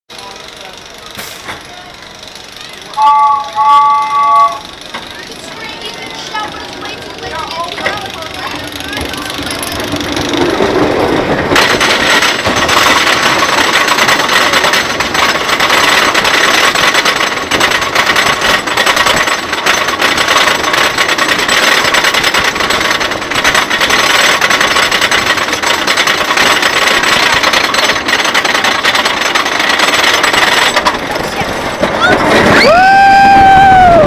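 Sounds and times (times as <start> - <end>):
roller coaster lift chain clacking: 0.1 - 34.0.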